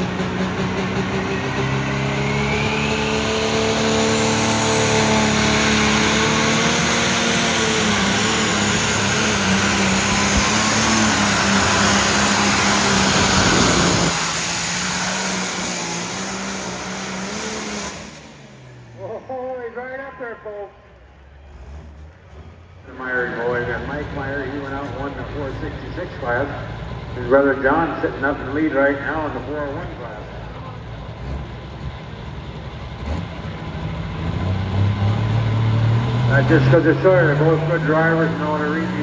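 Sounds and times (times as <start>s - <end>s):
tractor engine at full throttle: 0.0s - 39.0s.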